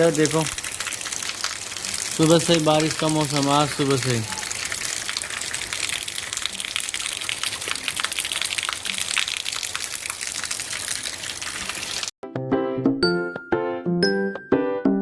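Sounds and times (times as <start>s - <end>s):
heavy rain falling: 0.0s - 12.1s.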